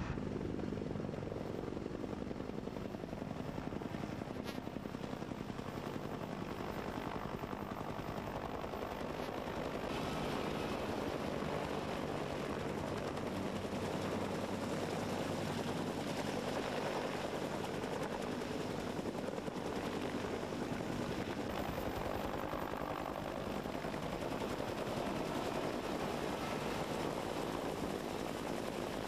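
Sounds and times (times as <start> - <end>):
helicopter rotor blades chopping: 0.0 - 29.0.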